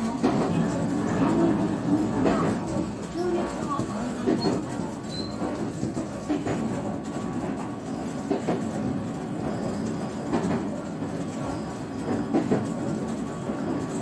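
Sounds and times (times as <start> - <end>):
train rolling rumble: 0.0 - 14.0.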